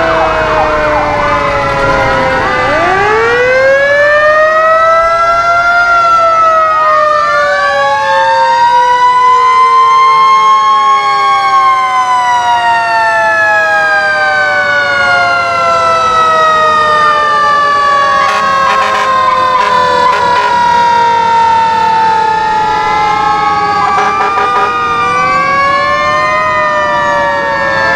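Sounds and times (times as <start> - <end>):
fire truck sirens wailing: 0.0 - 27.9.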